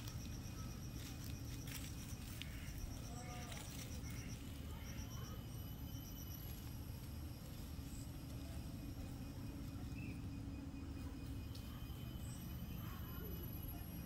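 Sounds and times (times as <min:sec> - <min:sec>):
rapid high-pitched chirps: 0:00.0 - 0:14.0.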